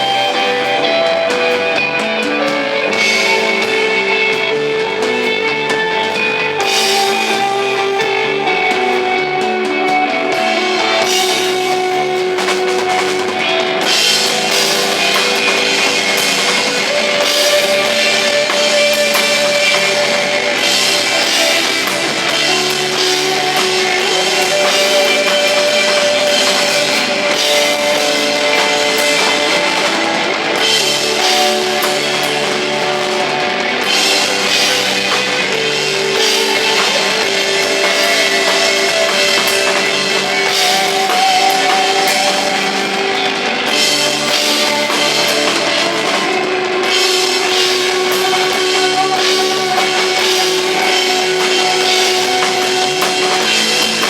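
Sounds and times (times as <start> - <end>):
held guitar notes: 0.0 - 54.0
rock band playing live: 0.0 - 54.0.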